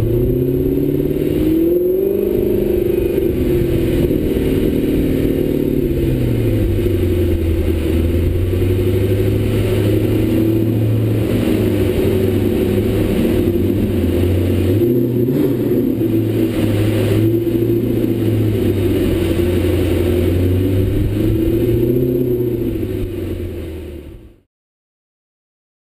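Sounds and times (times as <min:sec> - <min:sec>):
car engine deep drone: 0:00.0 - 0:24.5.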